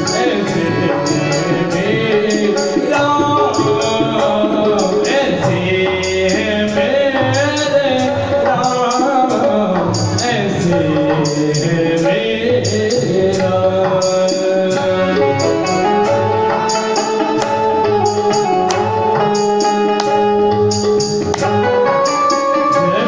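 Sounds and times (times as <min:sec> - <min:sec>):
man singing devotional song: 0:00.0 - 0:18.9, 0:21.8 - 0:23.0
held accompaniment notes: 0:00.0 - 0:23.0
high percussion strokes: 0:00.0 - 0:23.0.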